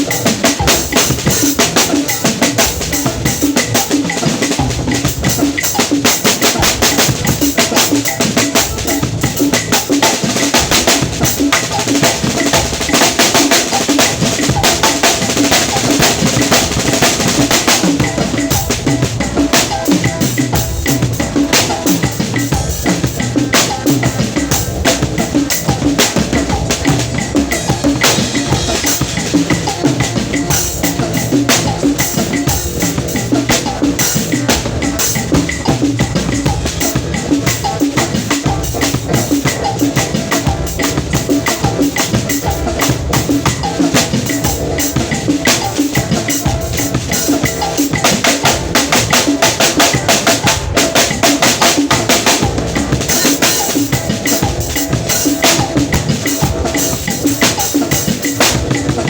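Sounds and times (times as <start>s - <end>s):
drum kit playing: 0.0s - 59.0s.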